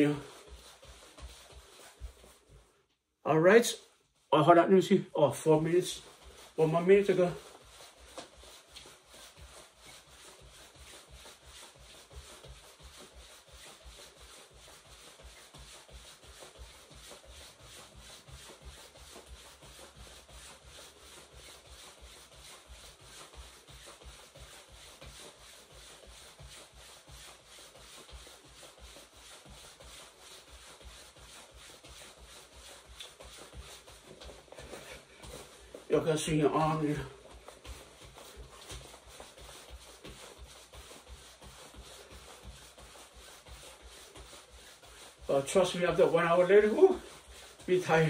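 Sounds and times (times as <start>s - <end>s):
jacket fabric swishing: 0.0s - 3.1s, 5.3s - 48.0s
soft jogging footfalls: 0.0s - 48.0s.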